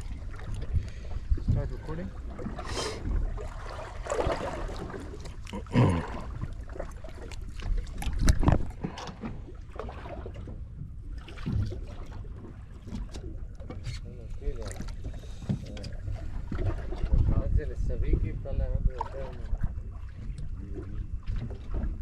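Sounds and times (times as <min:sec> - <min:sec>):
water lapping around boat: 0:00.0 - 0:22.0
wind rumble on microphone: 0:00.0 - 0:22.0.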